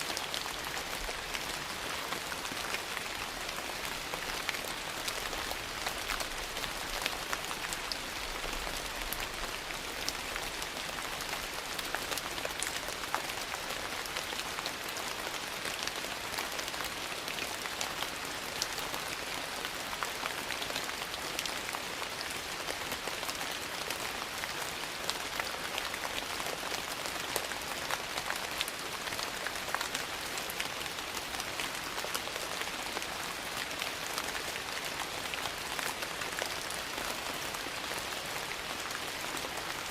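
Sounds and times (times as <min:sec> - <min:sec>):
sharp ticks of raindrops: 0:00.0 - 0:39.9
steady rain falling: 0:00.0 - 0:39.9.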